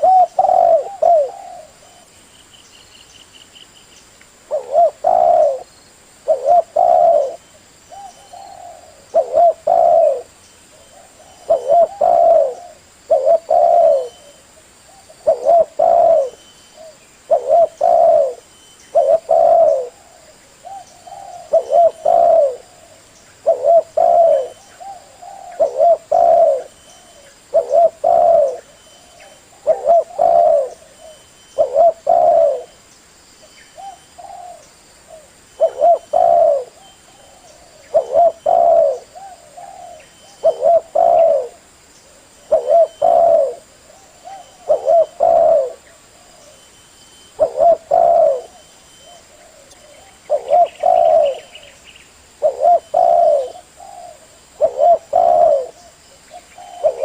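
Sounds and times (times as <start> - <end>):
dove cooing: 0.0 - 2.2, 4.5 - 32.8, 33.7 - 51.8, 52.4 - 57.0.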